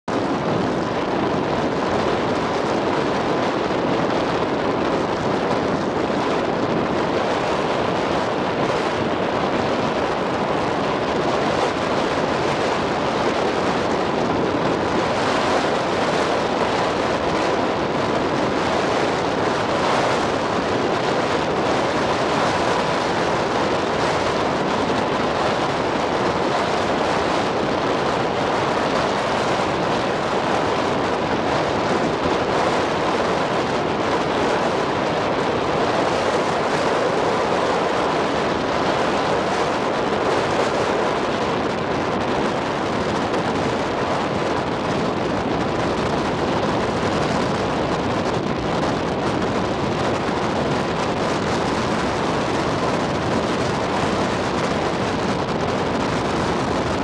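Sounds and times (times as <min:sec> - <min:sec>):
water rushing past boat: 0:00.1 - 0:57.0
wind rushing: 0:00.1 - 0:57.0.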